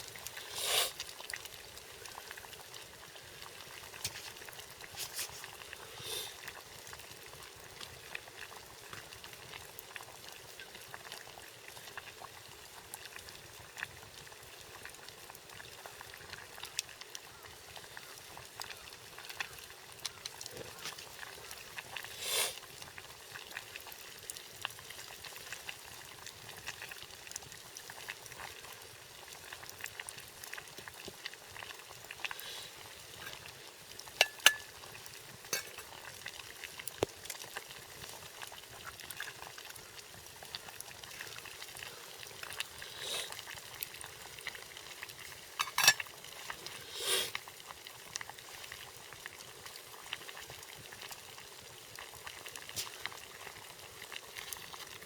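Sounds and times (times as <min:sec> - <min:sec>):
campfire crackles: 0:00.0 - 0:55.0
water bubbling in a pot: 0:00.0 - 0:55.0.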